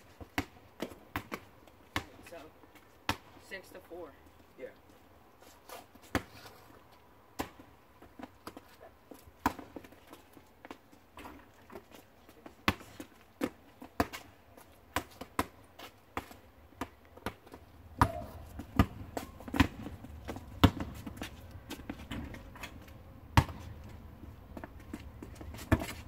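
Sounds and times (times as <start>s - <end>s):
basketball bouncing on asphalt: 0.1s - 3.5s, 6.0s - 6.4s, 7.3s - 26.0s.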